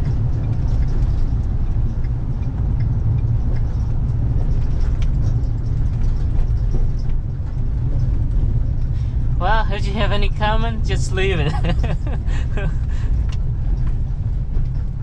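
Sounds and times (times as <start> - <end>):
engine and road rumble: 0.0 - 15.0
faint rattles and ticks: 0.0 - 15.0.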